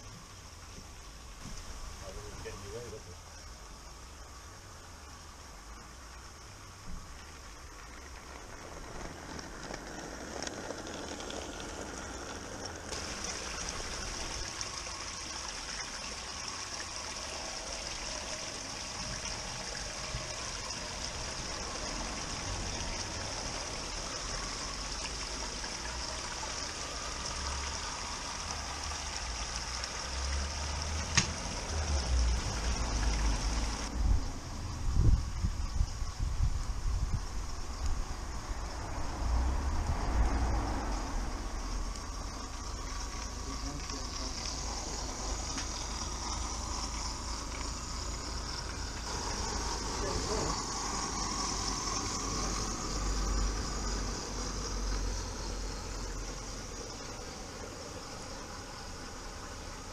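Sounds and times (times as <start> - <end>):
running water trickling: 0.0 - 59.9.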